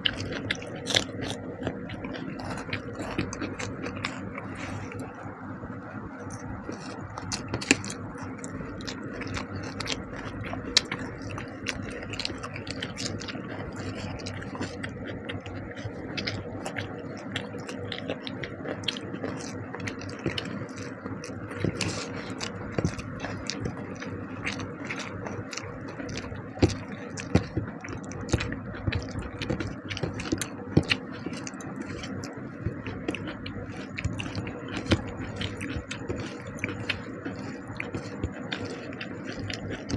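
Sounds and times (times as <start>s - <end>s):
person chewing food: 0.0s - 5.4s, 6.2s - 39.9s
steady low hum: 0.0s - 39.9s.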